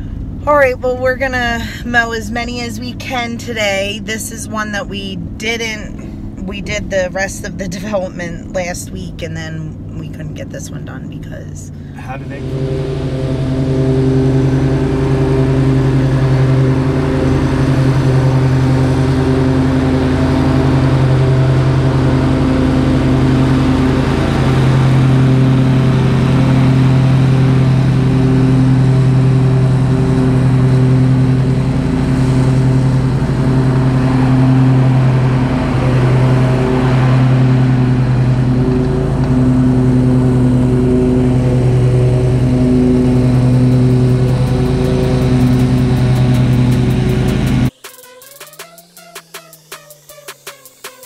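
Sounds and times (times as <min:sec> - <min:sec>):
engine running steadily: 0:00.0 - 0:51.0.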